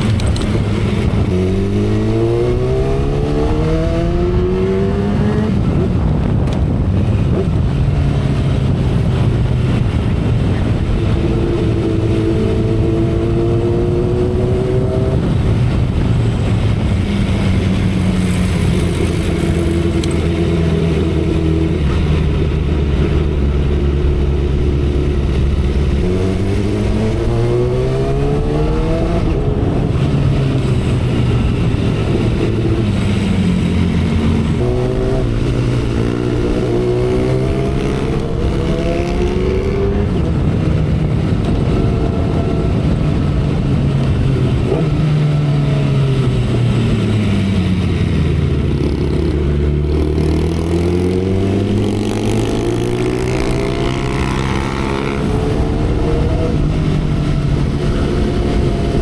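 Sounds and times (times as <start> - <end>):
motorcycle engine at speed: 0.0 - 59.0
wind and road noise: 0.0 - 59.0.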